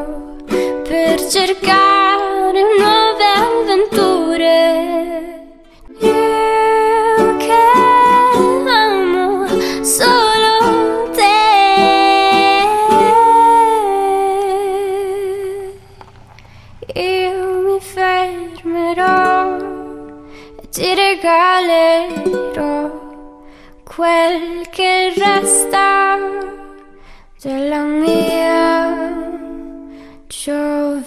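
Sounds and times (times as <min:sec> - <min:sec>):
person singing pop song: 0:00.0 - 0:15.8, 0:16.8 - 0:31.0
plucked-string accompaniment: 0:00.0 - 0:27.0, 0:27.9 - 0:30.0.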